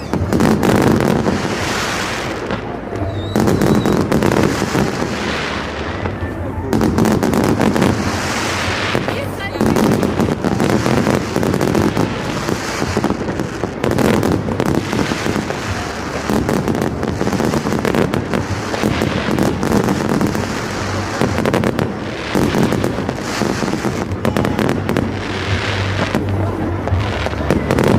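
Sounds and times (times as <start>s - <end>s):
firecrackers crackling and popping: 0.0s - 27.9s.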